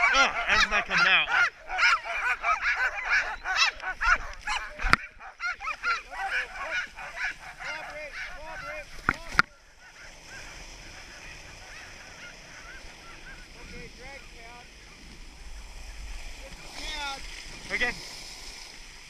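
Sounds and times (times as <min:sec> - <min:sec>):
sled dogs yelping and barking: 0:00.0 - 0:17.0.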